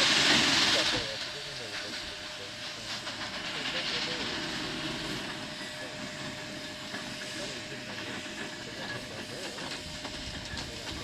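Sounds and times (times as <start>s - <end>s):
steam shovel hissing steam: 0.0s - 11.0s.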